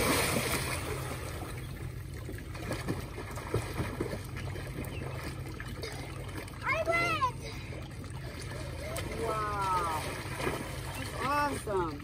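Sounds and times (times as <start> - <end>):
jump-in splash: 0.0 - 1.6, 2.5 - 12.0
pool water sloshing: 0.0 - 12.0
small splashes from kicking: 2.2 - 12.0.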